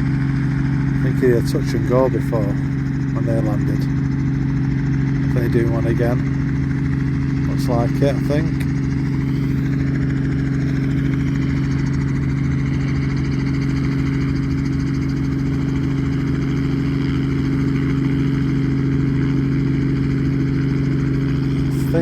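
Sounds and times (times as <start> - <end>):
helicopter engine and rotors: 0.0 - 22.0.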